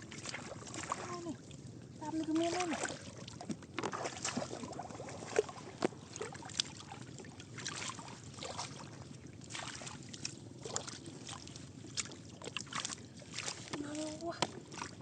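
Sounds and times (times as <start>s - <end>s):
shallow water sloshing and splashing: 0.0s - 15.0s.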